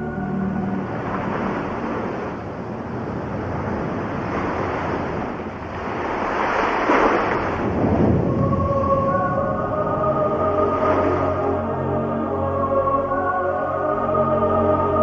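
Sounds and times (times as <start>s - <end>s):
sea waves washing in: 0.0s - 15.0s.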